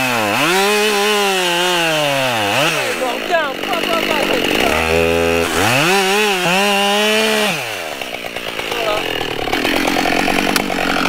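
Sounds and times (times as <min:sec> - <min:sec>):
chainsaw cutting log: 0:00.0 - 0:11.0.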